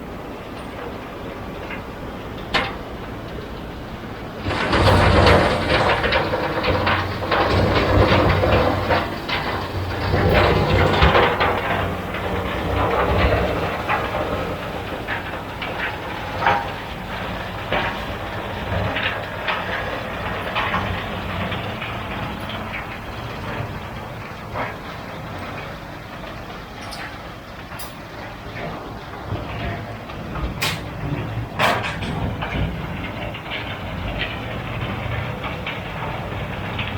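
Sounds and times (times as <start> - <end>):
tractor engine running: 0.0 - 36.9
loose metal clanking and rattling: 0.5 - 36.9.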